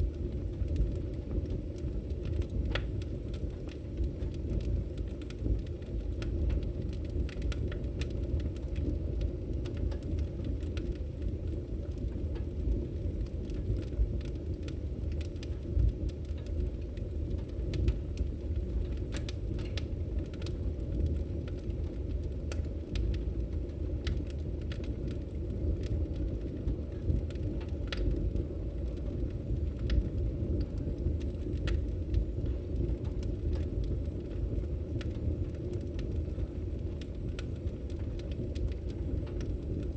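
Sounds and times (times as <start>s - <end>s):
fire flames rumbling: 0.0s - 39.9s
fire popping and snapping: 0.0s - 39.9s.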